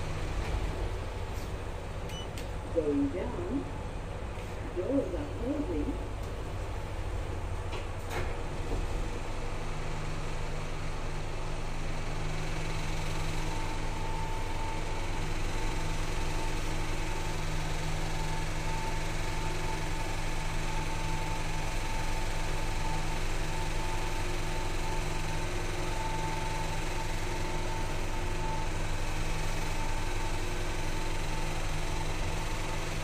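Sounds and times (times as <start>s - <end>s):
high elevator whine: 0.0s - 32.8s
elevator low hum: 0.0s - 33.0s.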